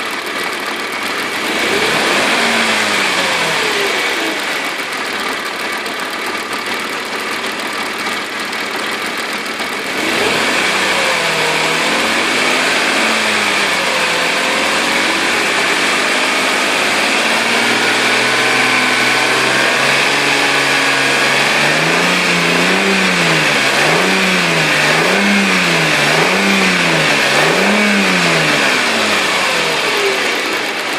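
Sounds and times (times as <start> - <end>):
car engine idling and revving: 0.0 - 30.9
engine knock: 0.0 - 30.9.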